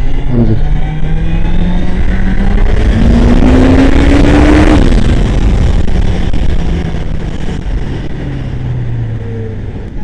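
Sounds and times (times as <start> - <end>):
motorcycle engine accelerating: 0.0 - 10.0
wind rumble on microphone: 0.0 - 10.0.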